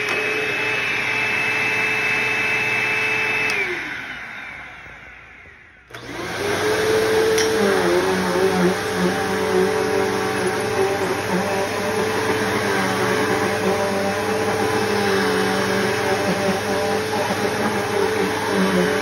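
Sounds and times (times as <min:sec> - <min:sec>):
vacuum cleaner motor whine: 0:00.0 - 0:19.0
vacuum motor winding down: 0:00.0 - 0:19.0
vacuum starting up: 0:00.0 - 0:19.0.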